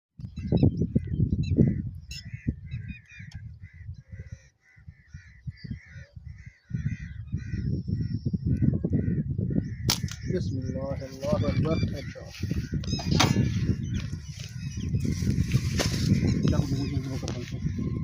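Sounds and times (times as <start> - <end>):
birds calling: 0.2 - 18.0
low rumble on microphone: 0.2 - 18.0.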